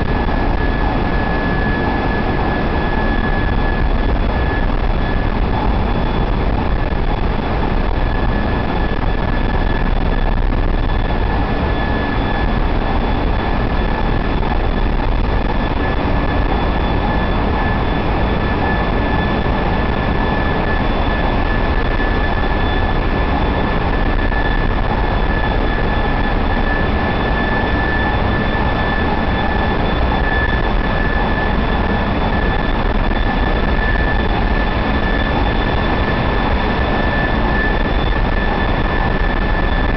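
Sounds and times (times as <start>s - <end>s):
high machine whine: 0.0s - 39.9s.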